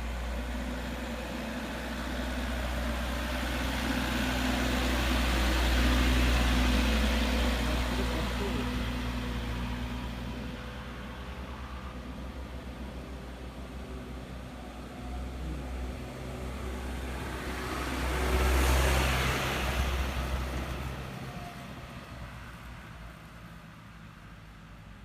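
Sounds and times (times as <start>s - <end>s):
heavy diesel vehicle climbing: 0.0s - 25.0s.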